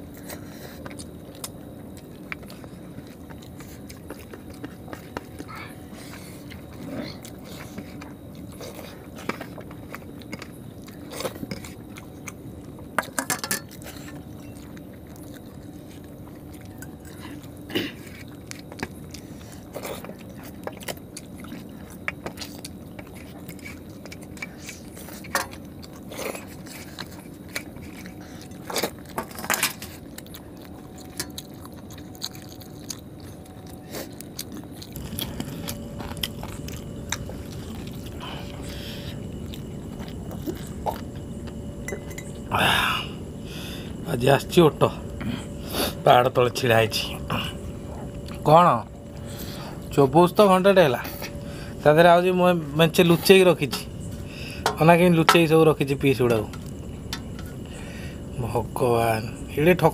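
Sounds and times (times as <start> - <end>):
faint hum: 0.0 - 59.9
people chewing: 0.0 - 59.9.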